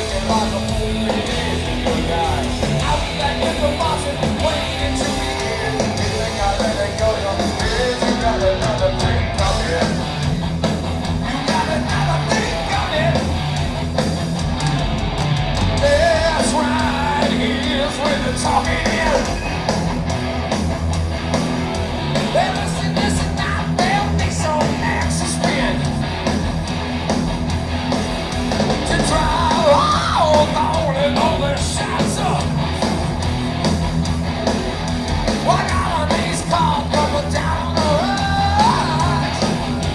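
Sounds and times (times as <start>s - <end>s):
yelled sung vocals: 0.0s - 20.5s, 21.1s - 39.9s
bass guitar: 0.0s - 39.9s
distorted electric guitars: 0.0s - 39.9s
drums: 0.0s - 39.9s.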